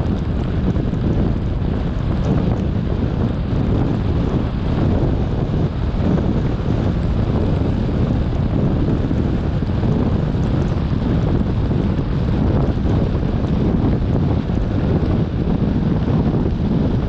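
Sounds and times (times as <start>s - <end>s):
car driving on wet road: 0.0s - 17.0s
wind noise on microphone: 0.0s - 17.0s.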